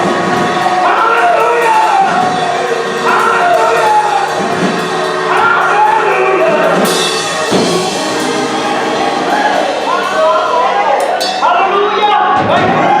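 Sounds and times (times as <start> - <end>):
instrumental backing chords: 0.0 - 12.2
choir singing gospel: 0.0 - 13.0.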